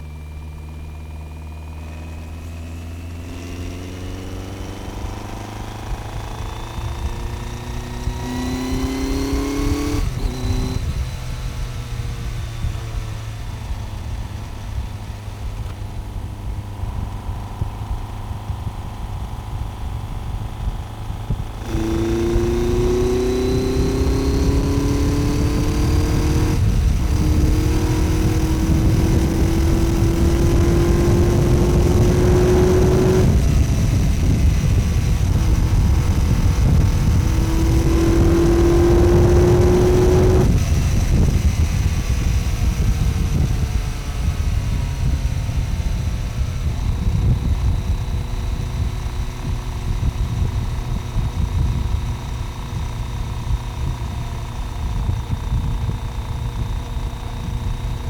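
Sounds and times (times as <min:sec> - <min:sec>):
motorcycle engine running: 0:00.0 - 0:58.0
wind rush: 0:03.4 - 0:58.0.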